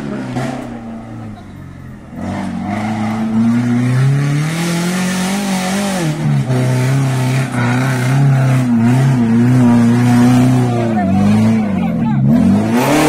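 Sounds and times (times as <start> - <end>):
jeep engine revving: 0.0 - 13.0.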